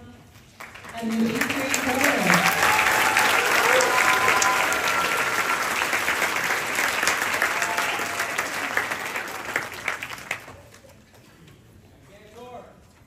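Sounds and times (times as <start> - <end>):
audience applauding: 0.6 - 11.1.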